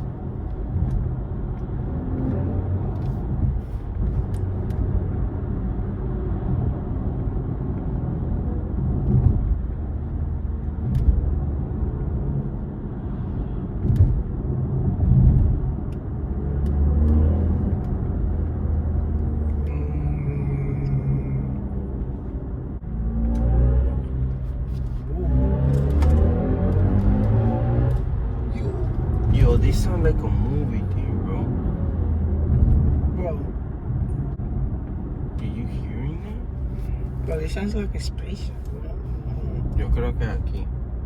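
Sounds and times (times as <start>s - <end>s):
car engine and road drone: 0.0s - 41.0s.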